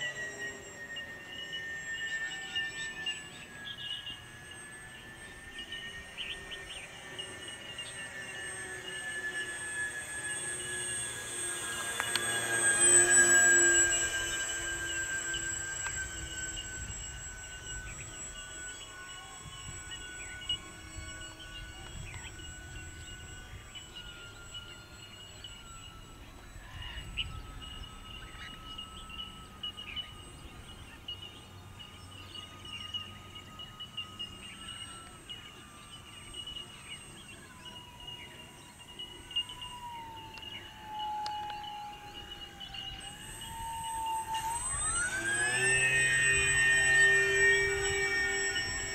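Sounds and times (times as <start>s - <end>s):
model plane motors whining: 0.0s - 48.9s.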